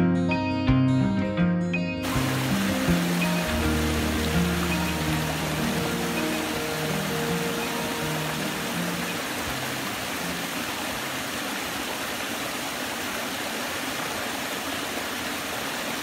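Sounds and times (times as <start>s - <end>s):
waterfall rushing: 2.0s - 16.0s.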